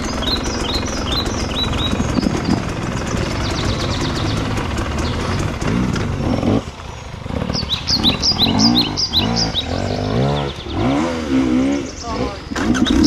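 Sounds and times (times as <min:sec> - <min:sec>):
bird chirping: 0:00.0 - 0:13.0
dirt bike engines revving: 0:00.0 - 0:13.0.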